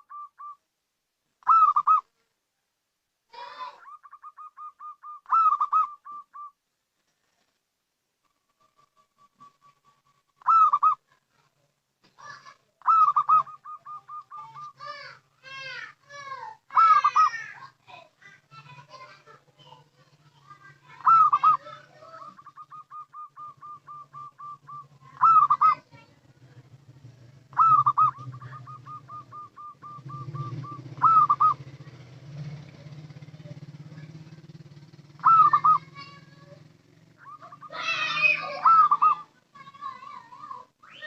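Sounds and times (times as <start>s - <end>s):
dove cooing: 0.0s - 0.6s, 1.4s - 2.2s, 3.4s - 6.6s, 8.6s - 11.2s, 12.2s - 40.2s.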